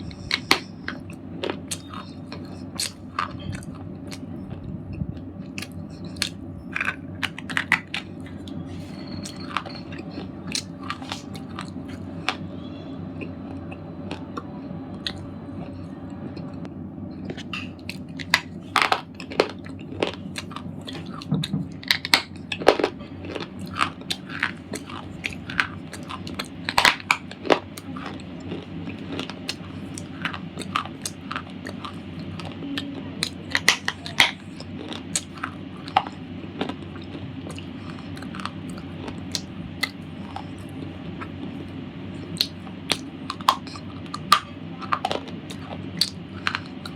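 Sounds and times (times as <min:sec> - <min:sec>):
chewing crunches: 0:00.0 - 0:12.5, 0:17.2 - 0:46.9
steady low hum: 0:00.0 - 0:46.9.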